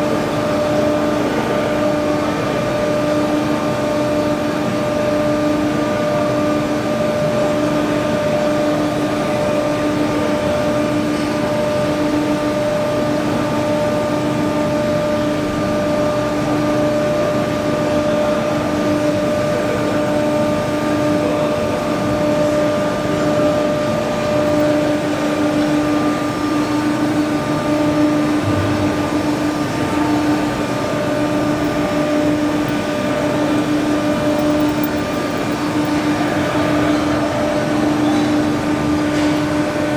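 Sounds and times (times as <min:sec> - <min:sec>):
machine mechanical hum: 0:00.0 - 0:39.9.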